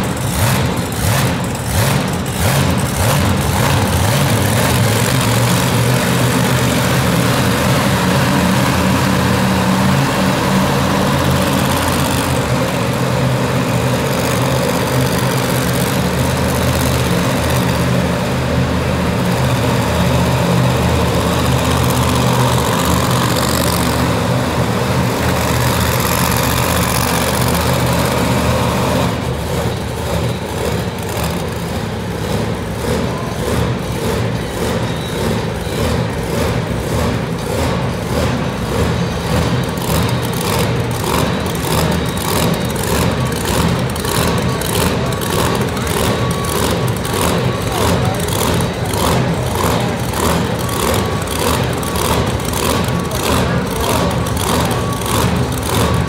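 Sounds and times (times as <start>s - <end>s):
truck engine running hard: 0.0s - 56.0s.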